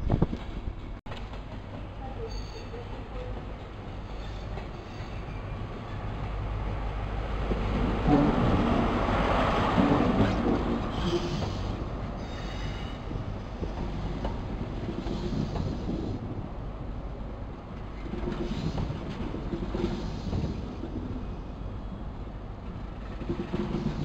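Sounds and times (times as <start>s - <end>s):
train coaches rolling past: 0.0s - 24.0s
diesel train engine: 0.6s - 24.0s.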